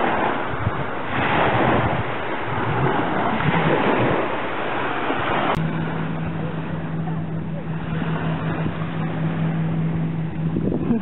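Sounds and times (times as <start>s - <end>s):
waves breaking on sandy shore: 0.0s - 11.0s
wind buffeting microphone: 0.0s - 11.0s.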